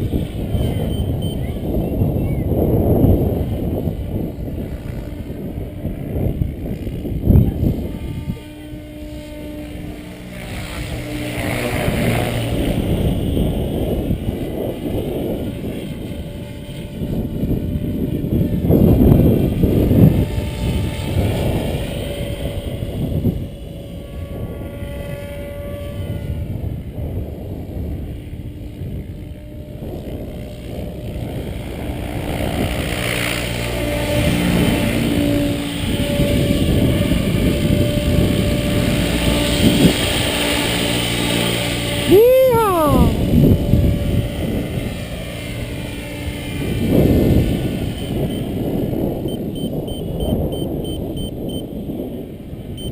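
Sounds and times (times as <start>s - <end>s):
model aircraft motor whine: 0.0s - 52.9s
wind buffeting microphone: 0.0s - 52.9s.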